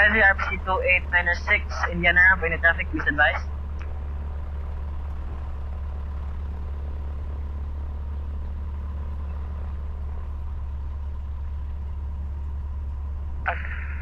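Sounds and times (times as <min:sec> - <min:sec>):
aircraft engine idling drone: 0:00.0 - 0:14.0.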